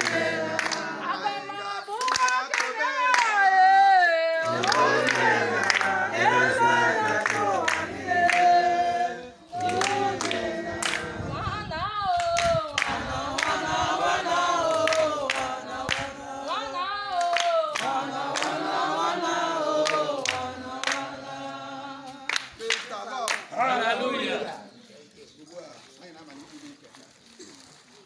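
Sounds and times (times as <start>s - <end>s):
group of voices singing: 0.0s - 22.9s, 23.5s - 24.8s.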